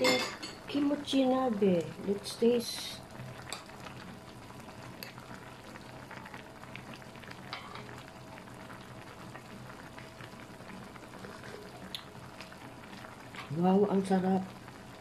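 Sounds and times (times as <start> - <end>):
broth boiling in a pot: 0.0 - 15.0.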